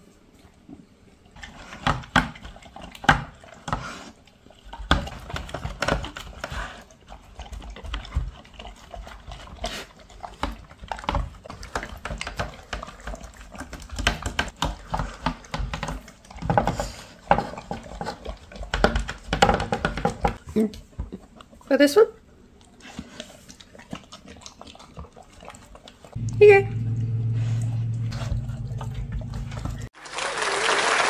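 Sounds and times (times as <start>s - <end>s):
dog chewing and licking: 1.4s - 21.7s, 22.3s - 29.9s.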